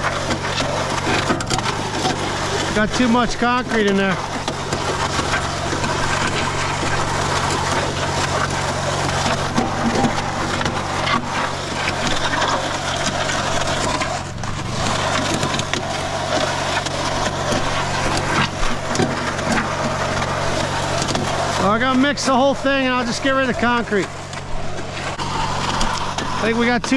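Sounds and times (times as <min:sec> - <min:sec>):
mixer motor hum: 0:00.0 - 0:26.9
wet concrete churning in mixer: 0:00.0 - 0:26.9.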